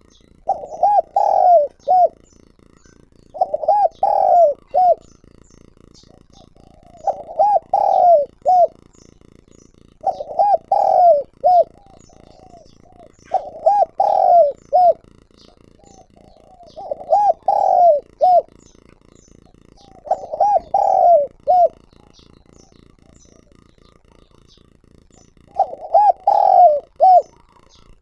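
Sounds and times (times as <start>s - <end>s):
dove cooing: 0.0s - 28.0s
small birds chirping: 0.0s - 28.0s.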